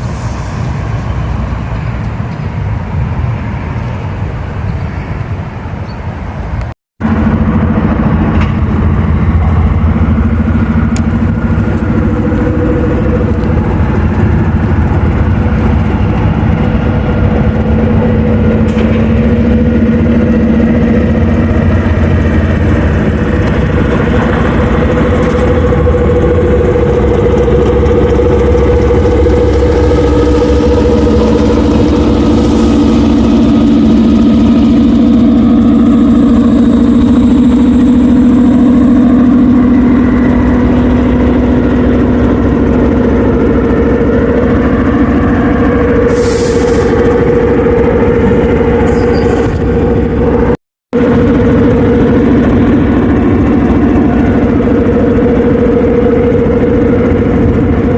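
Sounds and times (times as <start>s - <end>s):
diesel locomotive engine drone: 0.0s - 57.9s.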